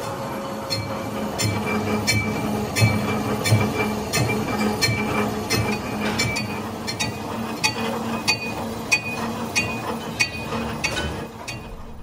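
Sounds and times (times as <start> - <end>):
lathe machine hum: 0.0 - 12.0.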